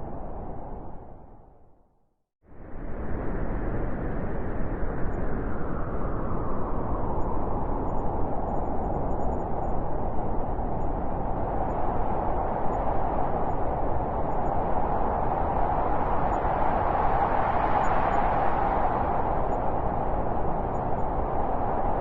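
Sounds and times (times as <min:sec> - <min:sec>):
blizzard wind howling: 0:00.0 - 0:01.8, 0:02.5 - 0:22.0.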